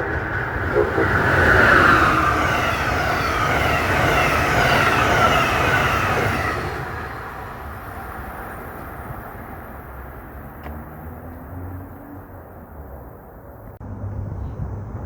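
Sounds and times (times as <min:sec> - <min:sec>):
train rail noise: 0:00.0 - 0:15.0.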